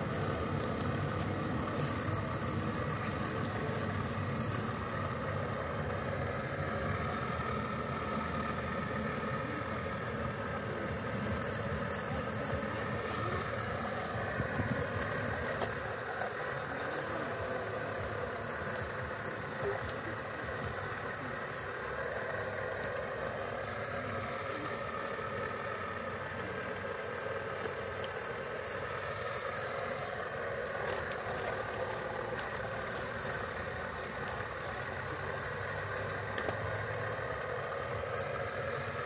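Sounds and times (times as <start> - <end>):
model excavator motors whirring: 0.0 - 39.0.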